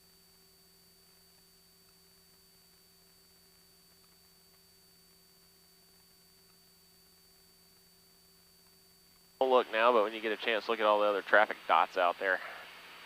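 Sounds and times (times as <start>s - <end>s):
constant thin tones: 0.0s - 13.0s
faint steady hum: 0.0s - 13.0s.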